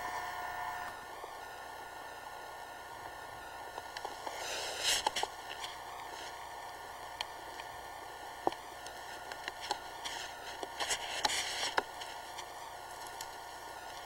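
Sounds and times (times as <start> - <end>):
recording hiss: 0.0 - 14.0.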